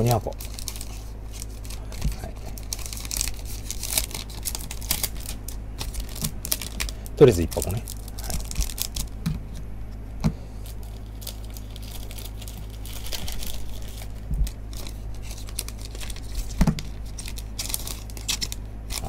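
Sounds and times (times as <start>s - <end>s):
plastic sleeves rustling and crinkling: 0.0s - 19.0s
steady low hum: 0.0s - 19.0s.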